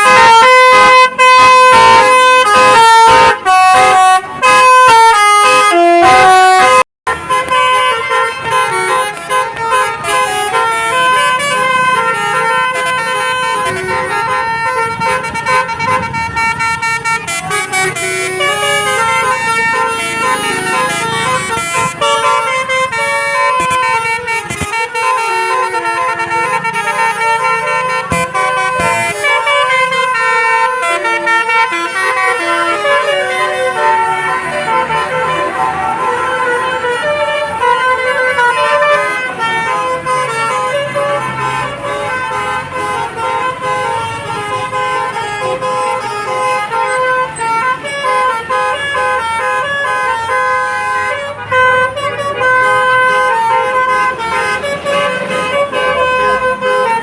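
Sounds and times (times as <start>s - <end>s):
multi-tone bus horn tune: 0.0s - 57.0s.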